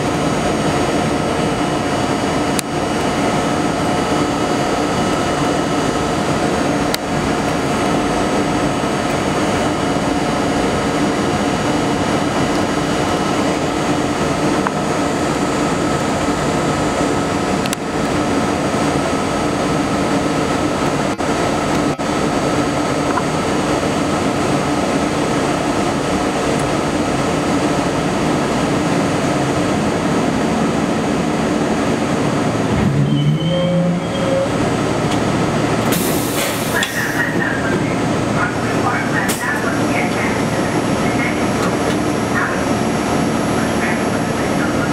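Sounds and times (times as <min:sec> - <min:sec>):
subway car running hum: 0:00.0 - 0:44.9.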